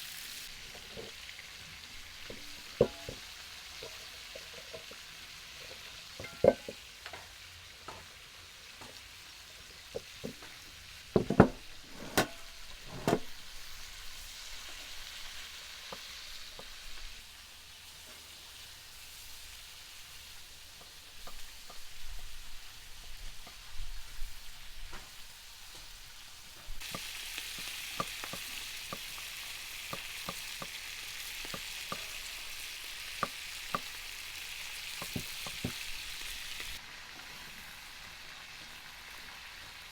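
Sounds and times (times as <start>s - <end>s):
food frying sizzle: 0.0s - 39.9s.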